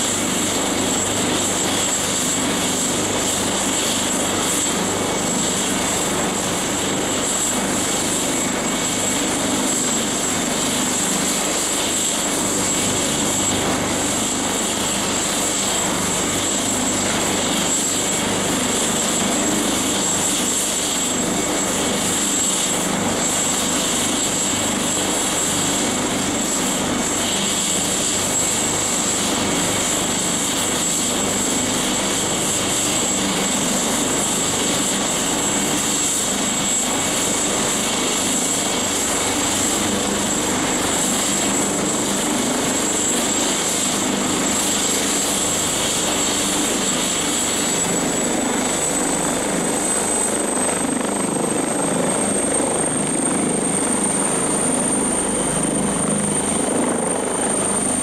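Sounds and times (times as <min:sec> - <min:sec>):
helicopter rotor turning: 0:00.0 - 0:58.0
turbine engine whine: 0:00.0 - 0:58.0.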